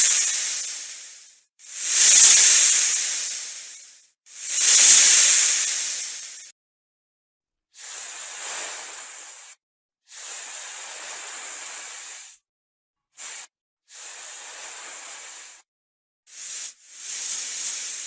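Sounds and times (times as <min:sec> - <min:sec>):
snake hissing: 0:00.0 - 0:06.5, 0:07.8 - 0:12.4, 0:13.2 - 0:15.6, 0:16.3 - 0:18.0.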